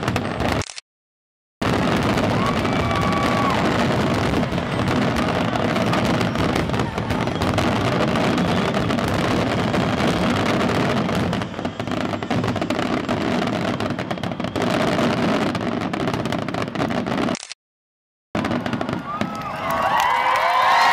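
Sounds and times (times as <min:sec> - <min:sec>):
fireworks bursting: 0:00.0 - 0:00.8, 0:01.6 - 0:17.6, 0:18.4 - 0:20.9.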